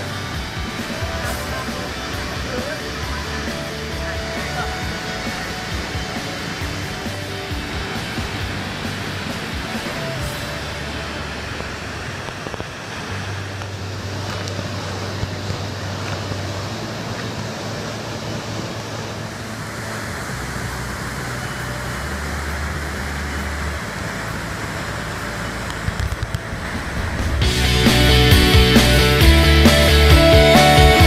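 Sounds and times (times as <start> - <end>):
waterfall rushing and splashing: 0.0 - 31.0.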